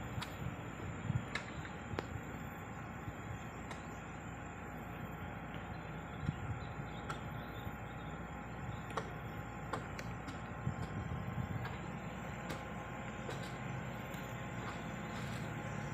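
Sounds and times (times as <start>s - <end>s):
heavy diesel machinery running: 0.0s - 15.9s.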